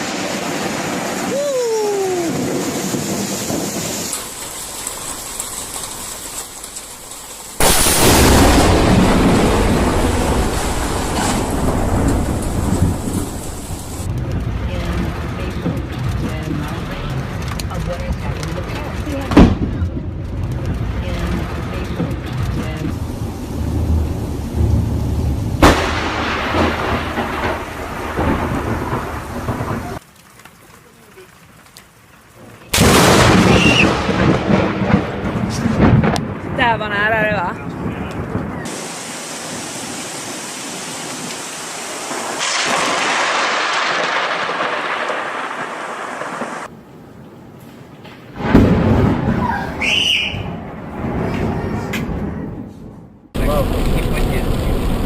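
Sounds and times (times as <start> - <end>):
steady rain falling: 0.0 - 50.0, 53.4 - 55.0
loud thunderclap: 2.0 - 6.2, 7.6 - 17.6, 18.2 - 30.0, 32.7 - 46.7, 48.4 - 55.0.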